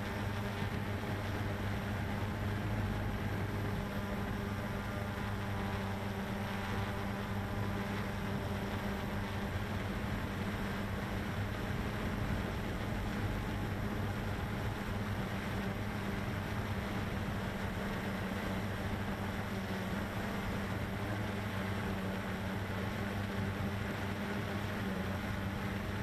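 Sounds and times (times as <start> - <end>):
quadcopter propellers humming: 0.0 - 26.0.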